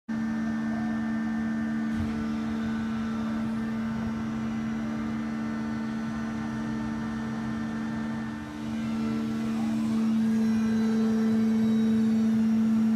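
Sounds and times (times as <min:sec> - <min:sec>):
hydraulic power unit humming: 0:00.1 - 0:12.9.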